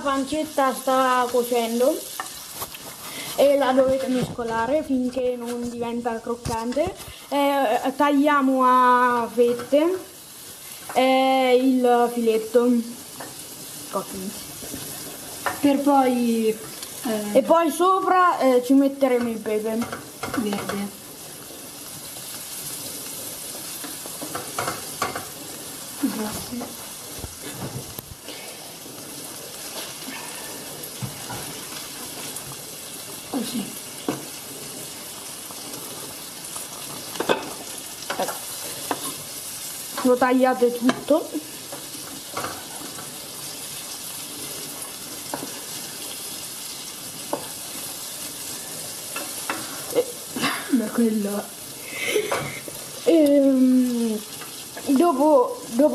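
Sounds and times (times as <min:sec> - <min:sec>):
meat sizzling in oil: 0:00.0 - 0:55.9.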